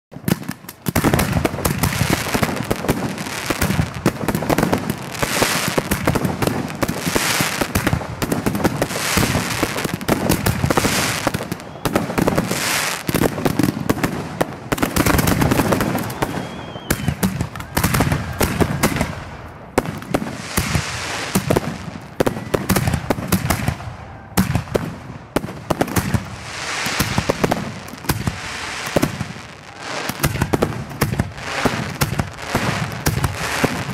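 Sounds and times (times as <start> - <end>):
fireworks launches and bursts: 0.1 - 33.9.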